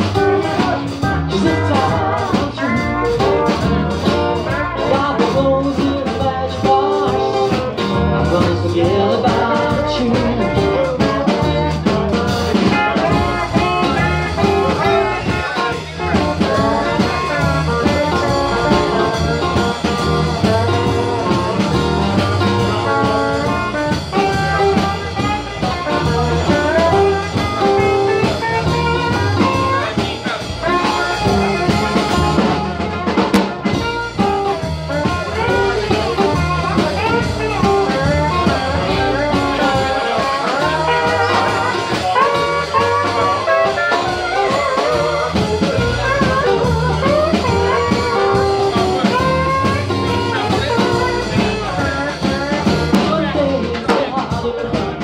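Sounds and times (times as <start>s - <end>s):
pitch-bending melody line: 0.0s - 53.8s
acoustic bass guitar: 0.0s - 55.0s
strummed acoustic guitars: 0.0s - 55.0s.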